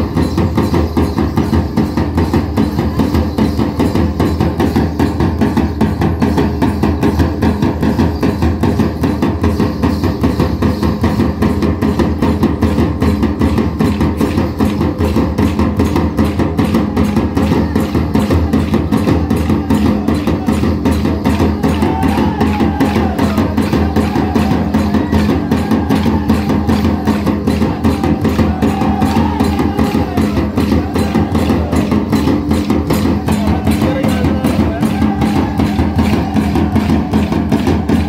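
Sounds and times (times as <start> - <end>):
fast folk drumming: 0.0 - 38.0.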